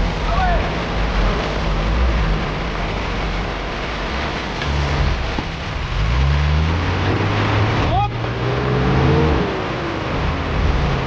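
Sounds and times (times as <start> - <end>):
engine revving under load: 0.0 - 11.0.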